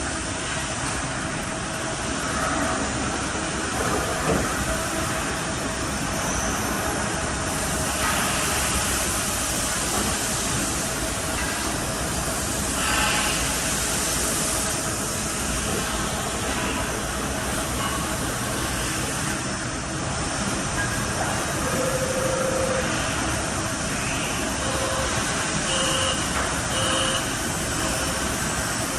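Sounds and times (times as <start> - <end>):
cnc machining noise: 3.7 - 28.9.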